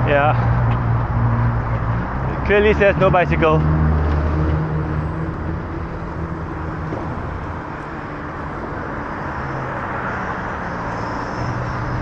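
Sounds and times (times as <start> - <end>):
road traffic rumbling on steel bridge: 0.0 - 12.0
low engine hum: 0.4 - 12.0.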